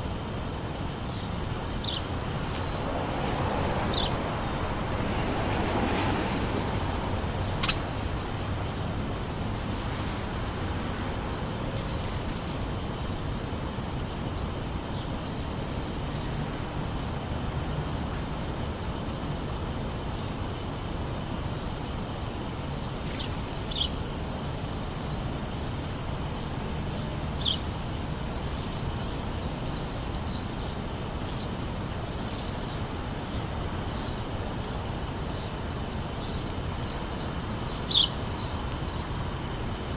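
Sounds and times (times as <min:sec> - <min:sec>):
low outdoor rumble: 0:00.0 - 0:39.9
small birds chirping: 0:00.0 - 0:39.9.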